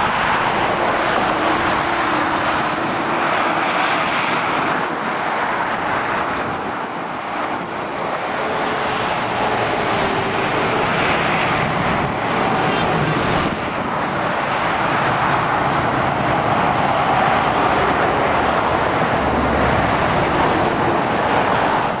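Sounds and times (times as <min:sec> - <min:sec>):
trucks passing on motorway: 0:00.0 - 0:22.0.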